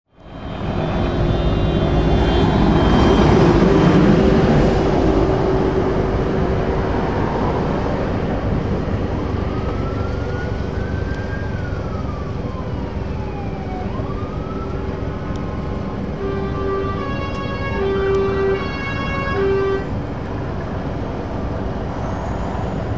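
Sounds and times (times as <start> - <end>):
heavy trucks and cars passing: 0.1 - 22.9.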